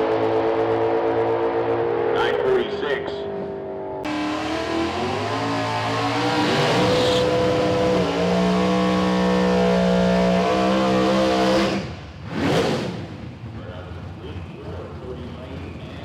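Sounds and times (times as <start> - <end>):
drag car engine revving: 0.0 - 16.0.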